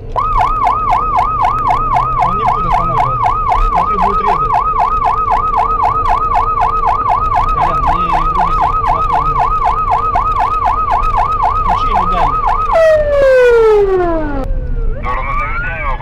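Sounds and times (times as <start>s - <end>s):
police siren yelping: 0.0s - 16.0s
long falling siren tone: 0.1s - 16.0s.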